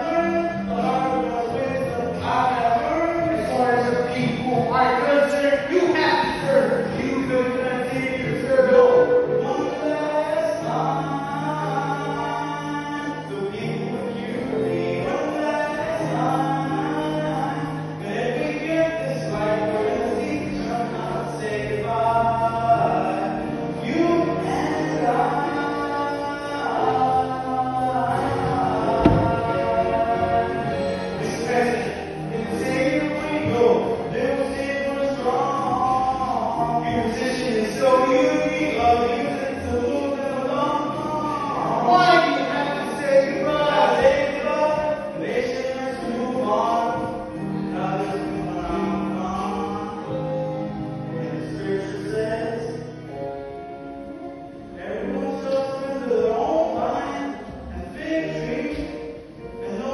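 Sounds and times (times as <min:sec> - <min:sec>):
young man singing: 0:00.0 - 0:53.8, 0:54.7 - 0:59.9
backing music: 0:00.0 - 0:59.9.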